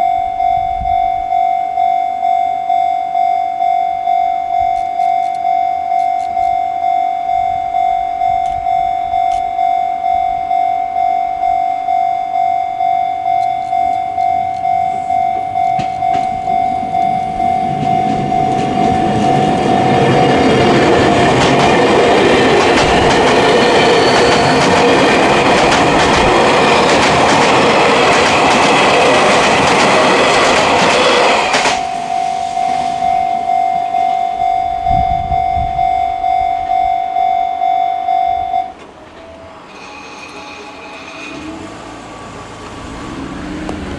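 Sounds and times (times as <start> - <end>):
electric train passing: 0.0 - 43.9
level crossing warning bell: 0.0 - 43.9.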